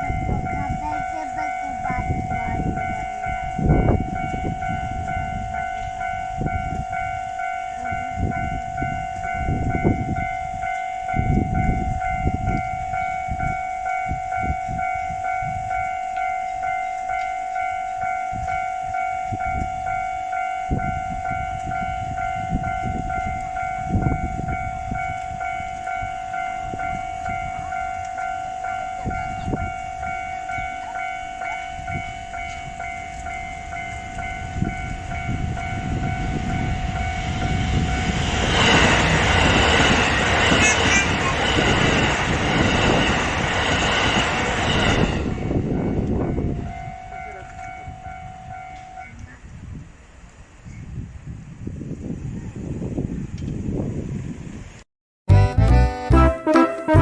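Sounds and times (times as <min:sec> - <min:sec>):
level-crossing alarm bell: 0:00.0 - 0:49.1.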